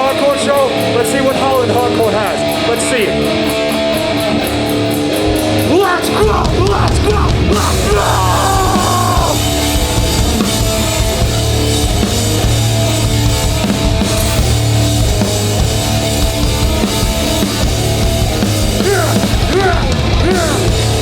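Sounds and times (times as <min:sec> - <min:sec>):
bass guitar: 0:00.0 - 0:21.0
distorted guitars: 0:00.0 - 0:21.0
pounding drum kit: 0:00.0 - 0:21.0.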